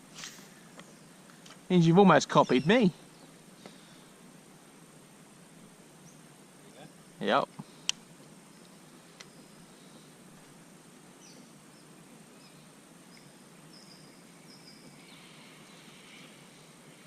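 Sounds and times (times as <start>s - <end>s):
low hiss on open water: 0.0s - 17.0s.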